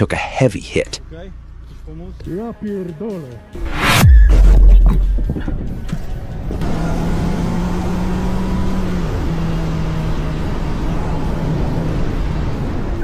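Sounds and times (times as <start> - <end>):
road and wind noise: 0.0 - 13.0
vehicle engine running: 0.6 - 13.0.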